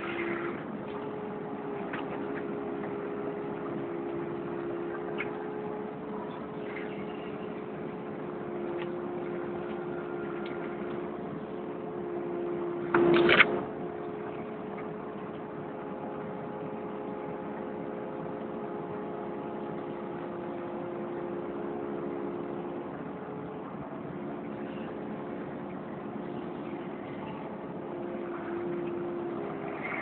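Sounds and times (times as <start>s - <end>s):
excavator engine and hydraulics: 0.0s - 30.0s
hum of held tones: 0.0s - 30.0s.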